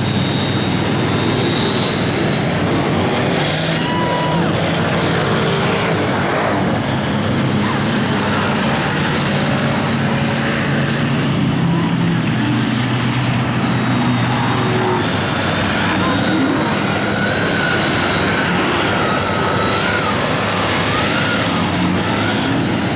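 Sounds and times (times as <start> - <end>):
truck engine running at high revs: 0.0 - 22.9.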